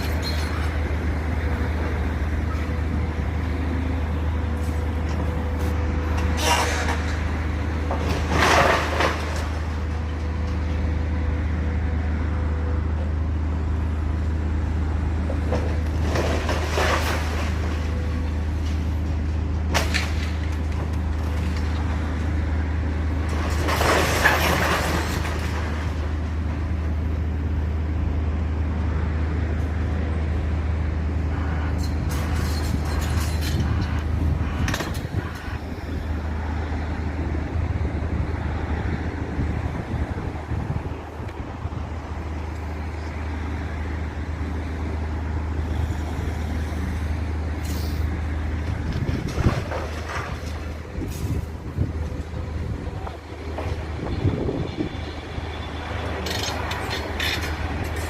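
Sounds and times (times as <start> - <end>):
low engine rumble: 0.0 - 58.0.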